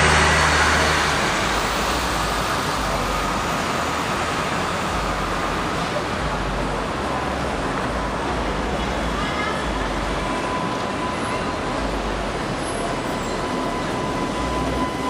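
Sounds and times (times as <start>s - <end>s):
city street traffic: 0.0s - 15.0s.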